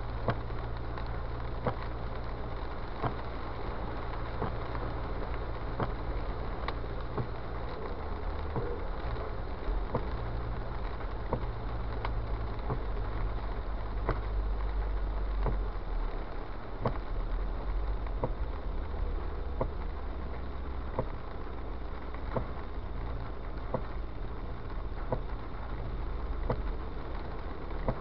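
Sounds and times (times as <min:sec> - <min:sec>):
car engine and road rumble: 0:00.0 - 0:28.0
tyres hissing on wet pavement: 0:00.0 - 0:28.0.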